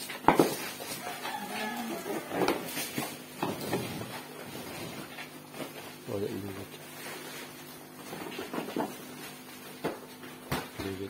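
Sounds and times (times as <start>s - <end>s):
plastic sacks rustling: 0.5s - 10.2s.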